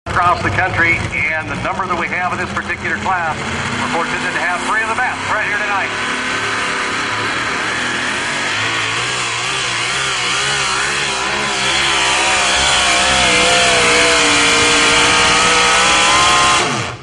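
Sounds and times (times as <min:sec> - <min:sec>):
truck engine at full throttle: 0:00.0 - 0:17.0.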